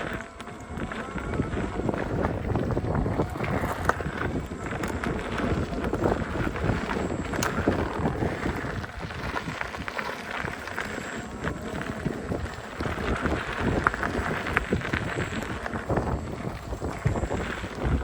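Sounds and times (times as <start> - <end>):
low rumble of riding: 0.0 - 18.0
wind buffeting microphone: 0.0 - 18.0.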